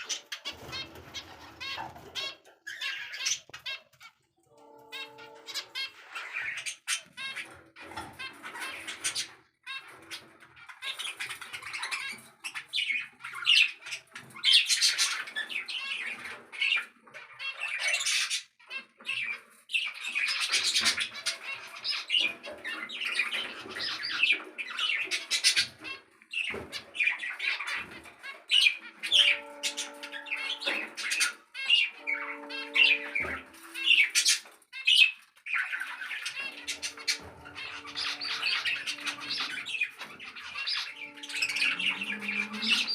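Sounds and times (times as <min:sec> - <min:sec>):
birds chattering and squawking: 0:00.0 - 0:42.9.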